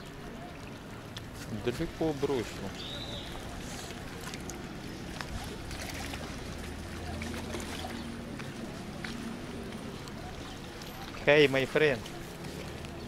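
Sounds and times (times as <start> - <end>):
wind and water on rocky shore: 0.0 - 13.0.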